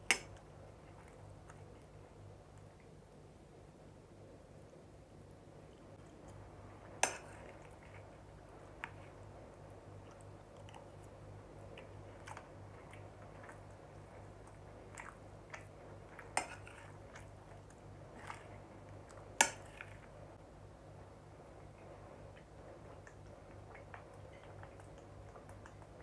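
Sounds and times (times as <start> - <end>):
faint low hum: 0.0 - 26.0
soft chewing: 0.0 - 26.0.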